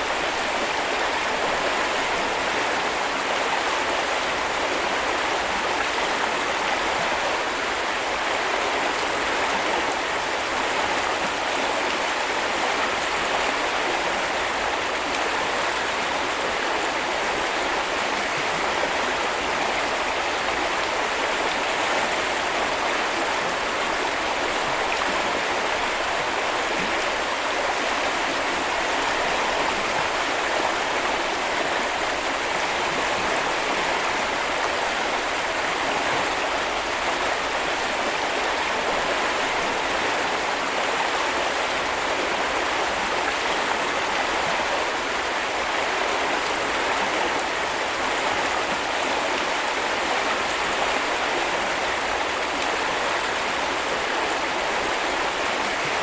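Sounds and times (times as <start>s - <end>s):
brook flowing over stones: 0.0s - 56.0s.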